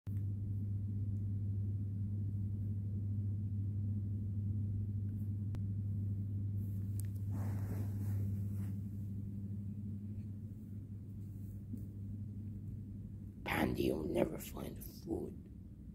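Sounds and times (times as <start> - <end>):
low hum: 0.1 - 15.9.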